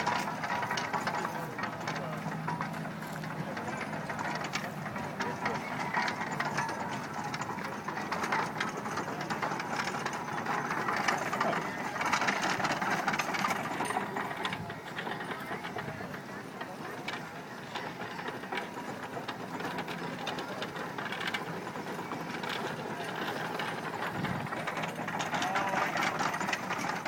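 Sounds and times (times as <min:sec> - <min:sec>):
steam engine running: 0:00.0 - 0:27.0.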